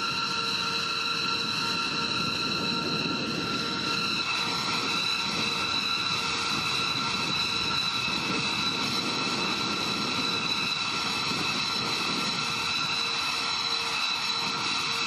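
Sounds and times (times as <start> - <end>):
jet turbine whine: 0.0 - 15.0.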